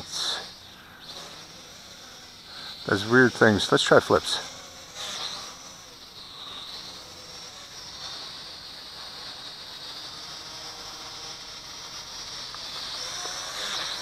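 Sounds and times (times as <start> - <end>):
toy drone motors whining: 0.0 - 14.0.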